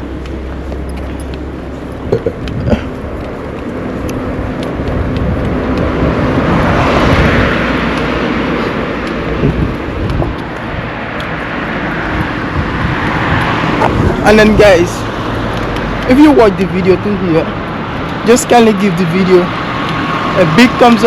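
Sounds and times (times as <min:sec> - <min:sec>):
low traffic rumble: 0:00.0 - 0:21.0
vehicle passing: 0:00.0 - 0:21.0.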